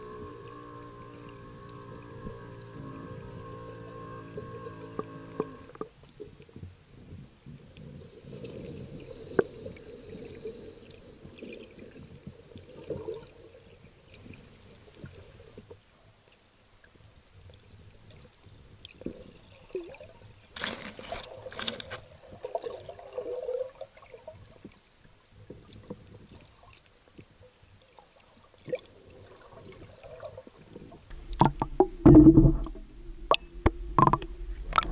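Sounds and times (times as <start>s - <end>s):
underwater trickling and pouring: 0.0s - 34.9s.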